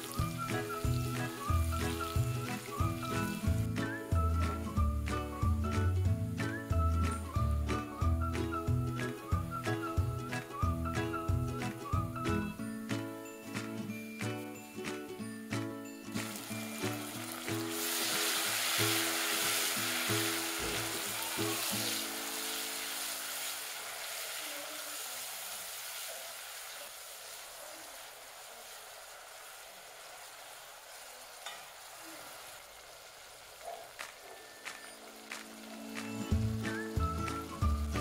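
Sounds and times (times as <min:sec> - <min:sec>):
tomatoes sizzling in hot oil: 0:00.0 - 0:38.0.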